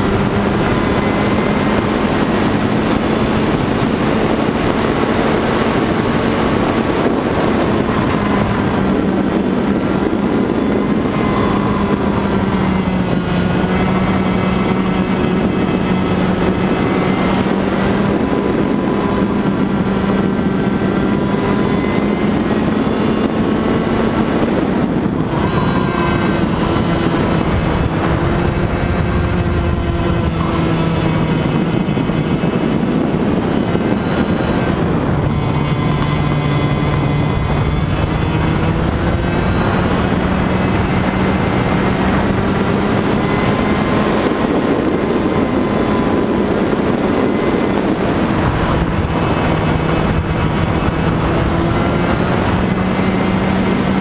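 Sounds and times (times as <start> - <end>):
kart engine at high revs: 0.0 - 54.0
wind rushing over microphone: 0.0 - 54.0.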